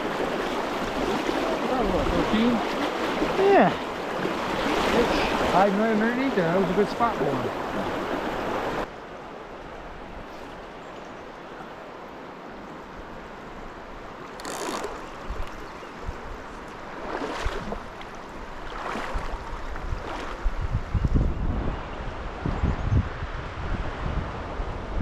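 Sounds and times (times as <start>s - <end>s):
stream water rushing: 0.0s - 20.8s.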